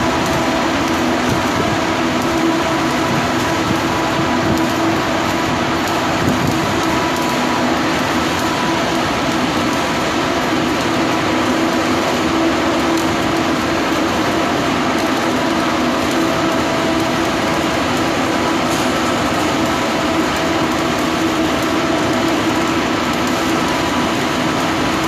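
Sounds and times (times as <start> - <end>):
welding hiss: 0.0 - 25.0.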